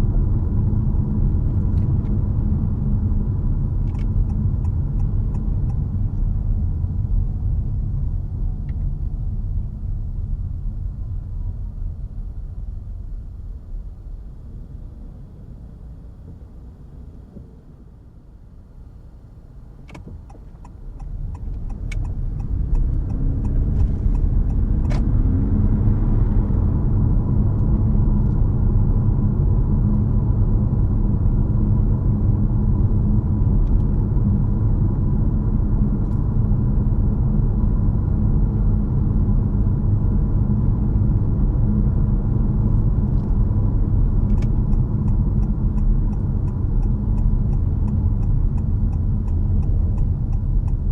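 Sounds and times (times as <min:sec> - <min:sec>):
car driving rumble from cabin: 0:00.0 - 0:50.9.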